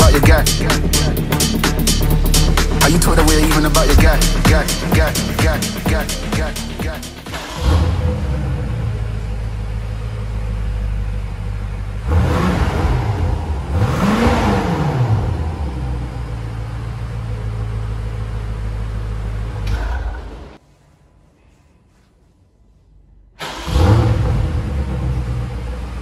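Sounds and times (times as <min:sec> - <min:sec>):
car engine idling: 0:00.0 - 0:20.6, 0:23.4 - 0:26.0
car engine revving: 0:00.0 - 0:20.6, 0:23.4 - 0:26.0.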